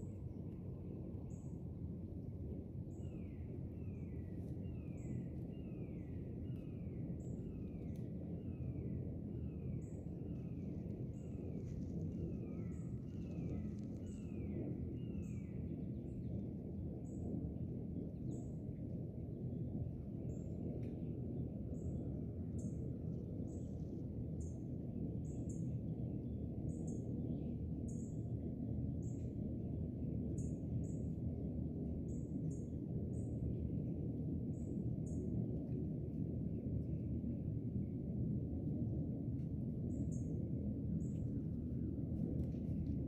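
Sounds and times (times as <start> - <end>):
low background rumble: 0.0 - 43.0.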